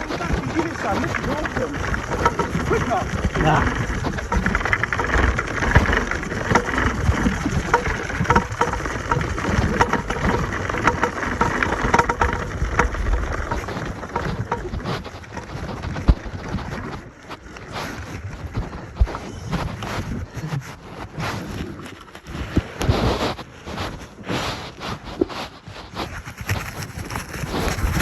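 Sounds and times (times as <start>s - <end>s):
scooter rattling over rough ground: 0.0s - 24.2s, 26.0s - 28.0s.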